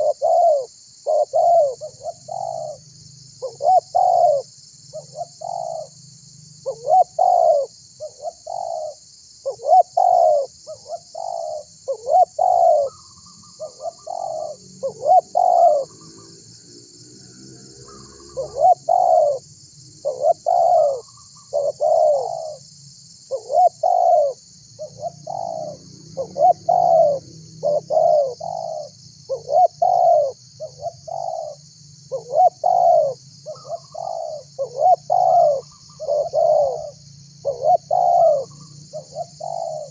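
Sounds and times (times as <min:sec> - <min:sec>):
dove cooing: 0:00.0 - 0:06.0, 0:06.6 - 0:16.4, 0:17.8 - 0:22.7, 0:23.3 - 0:39.9.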